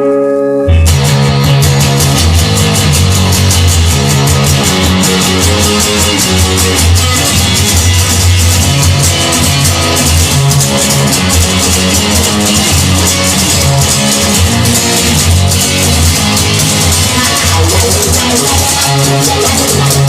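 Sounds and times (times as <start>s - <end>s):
blues-rock instrumental music: 0.0s - 20.0s.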